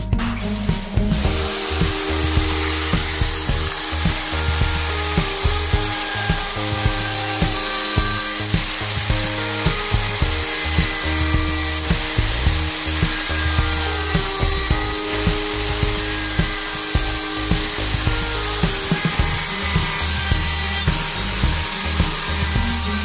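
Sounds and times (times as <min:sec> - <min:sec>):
background music with steady beat: 0:00.0 - 0:23.0
electric router shaping wood: 0:00.0 - 0:23.0.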